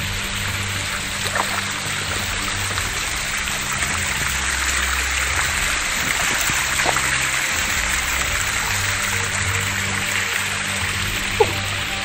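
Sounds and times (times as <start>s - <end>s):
water cascading down rocks: 0.0s - 12.0s.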